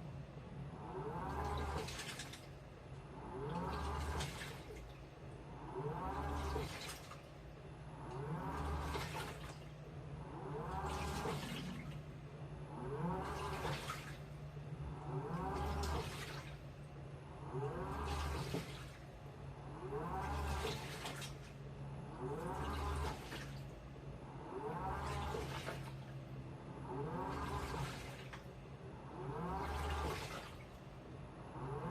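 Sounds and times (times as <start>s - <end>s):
steady low hum: 0.0s - 31.9s
washing machine drum motor whine: 0.0s - 31.9s
water sloshing: 0.9s - 31.9s.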